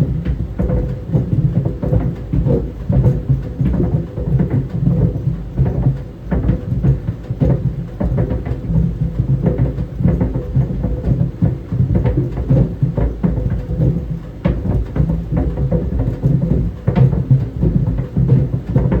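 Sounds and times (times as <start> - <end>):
dryer drum rumbling: 0.0 - 19.0.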